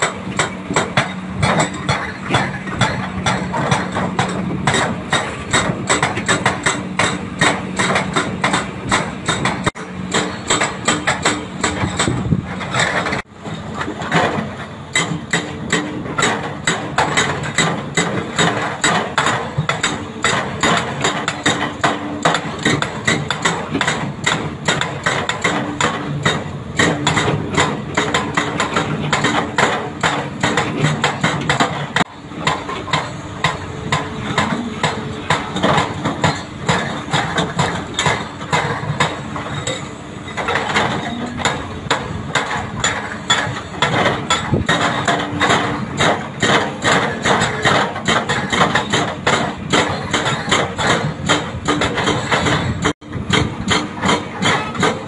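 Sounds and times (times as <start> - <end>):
excavator diesel engines running: 0.0 - 55.0
hydraulic rock breaker hammering: 0.0 - 55.0.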